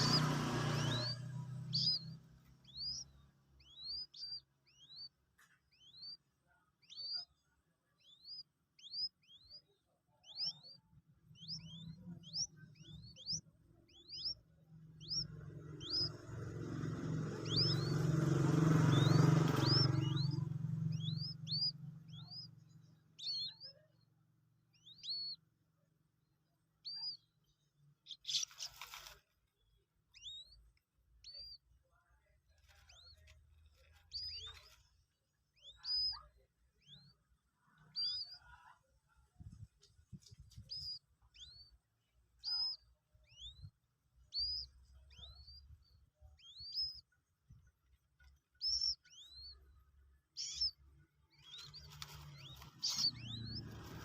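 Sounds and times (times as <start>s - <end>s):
moorhen chick peeping: 0.0s - 54.0s.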